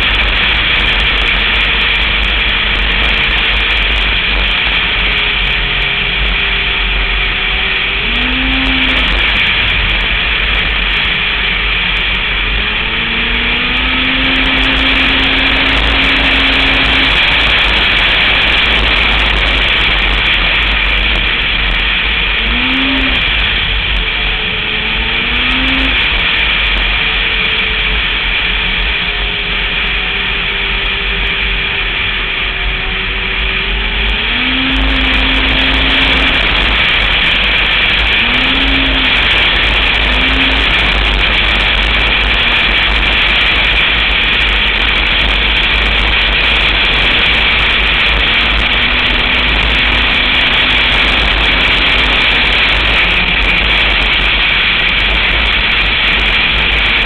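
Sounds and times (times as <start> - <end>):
snowmobile engine and track noise: 0.0 - 57.0.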